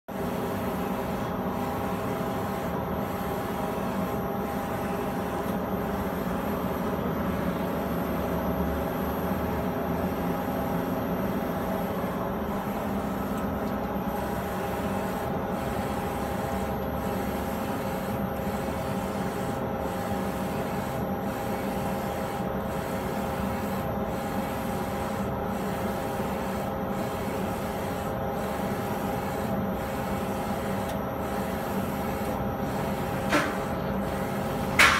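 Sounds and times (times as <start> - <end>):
printer carriage whirring: 0.1 - 34.9.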